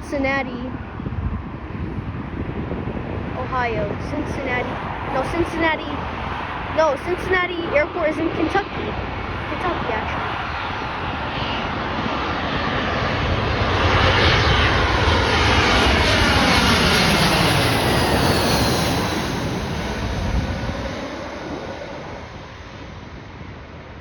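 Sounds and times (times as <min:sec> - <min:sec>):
airliner passing overhead: 0:00.0 - 0:24.0.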